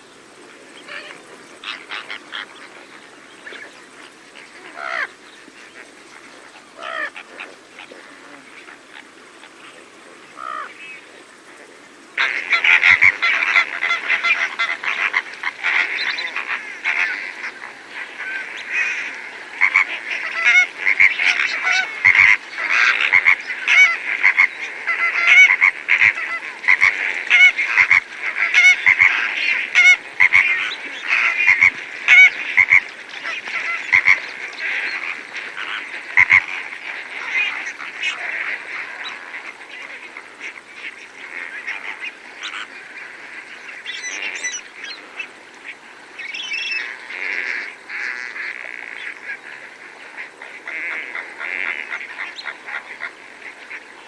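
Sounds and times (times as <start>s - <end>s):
flamingos honking and gabbling: 0.0s - 54.0s.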